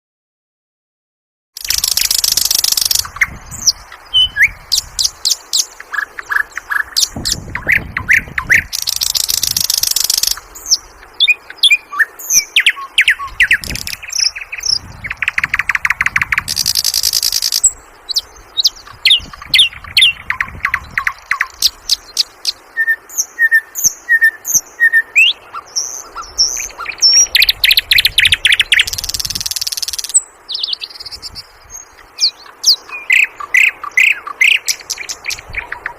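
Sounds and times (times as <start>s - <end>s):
bird singing chirps and whistles: 1.6s - 35.9s.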